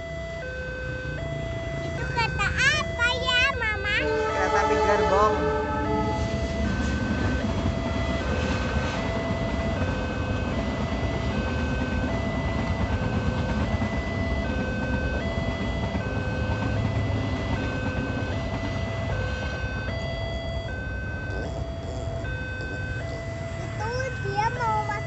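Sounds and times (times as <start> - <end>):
two-tone electronic warning signal: 0.0 - 25.0
passing train rumbling: 1.1 - 25.0.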